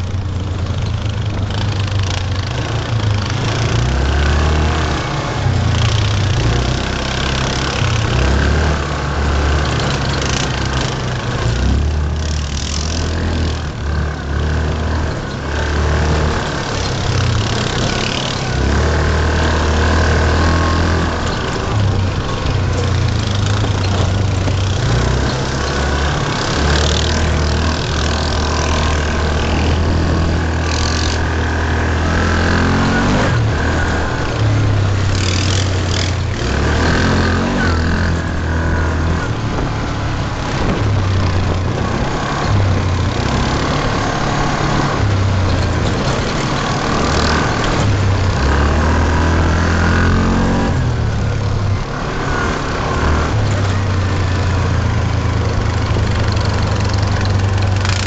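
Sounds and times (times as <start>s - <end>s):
single-cylinder engine revving: 0.0s - 58.0s
wind and trail noise: 0.0s - 58.0s.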